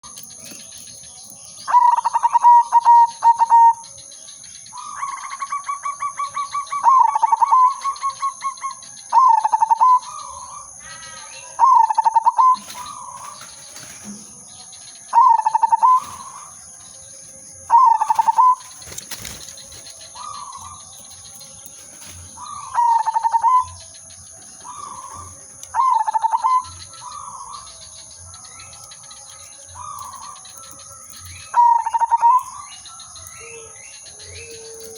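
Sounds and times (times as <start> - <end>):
dove cooing: 1.7 - 4.0, 4.8 - 14.4, 15.1 - 16.6, 17.7 - 27.9, 29.8 - 34.9.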